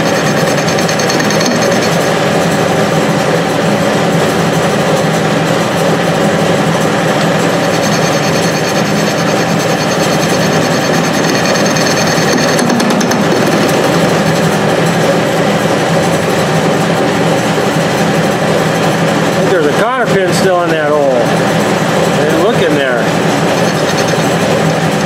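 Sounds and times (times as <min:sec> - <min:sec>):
metal lathe whirring: 0:00.0 - 0:25.0.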